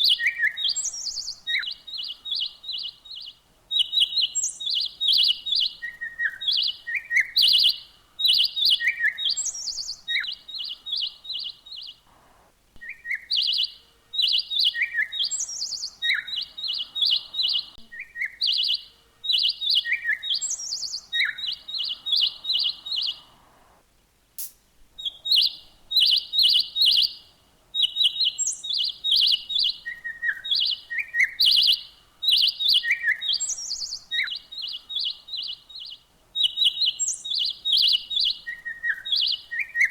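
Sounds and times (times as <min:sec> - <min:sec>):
songbird chirping and whistling: 0:00.0 - 0:12.1, 0:12.8 - 0:23.8, 0:25.0 - 0:39.9.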